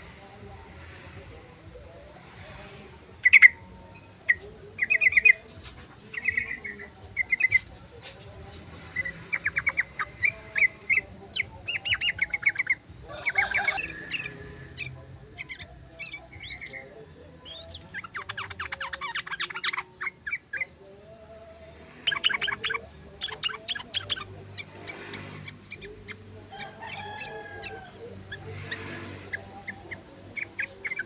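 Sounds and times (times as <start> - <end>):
bird chirps and trills: 0.0 - 31.0.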